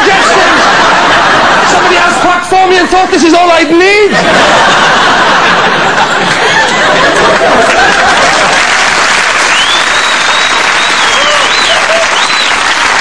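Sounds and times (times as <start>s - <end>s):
audience laughing and applauding: 0.0s - 13.0s.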